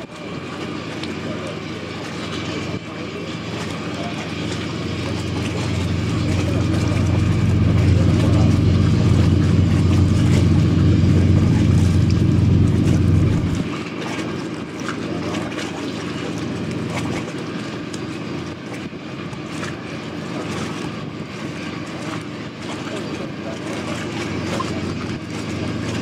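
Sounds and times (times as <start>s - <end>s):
bow wave rushing: 0.0s - 26.0s
ferry engine rumble: 0.0s - 26.0s.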